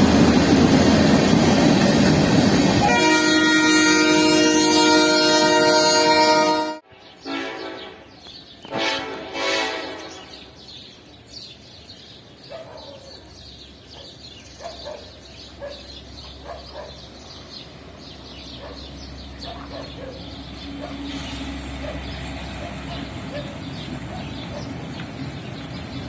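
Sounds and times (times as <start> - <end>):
birds chirping: 0.6 - 26.0.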